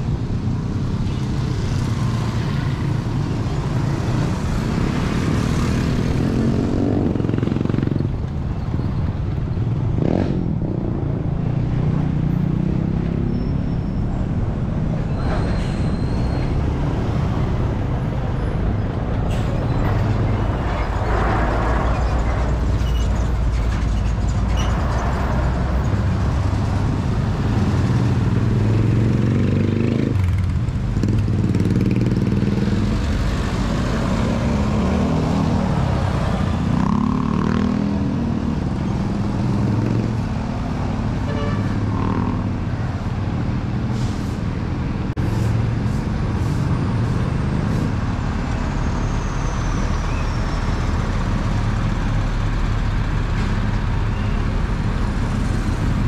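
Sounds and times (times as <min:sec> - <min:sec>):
vehicle engines revving: 0:00.0 - 0:56.0.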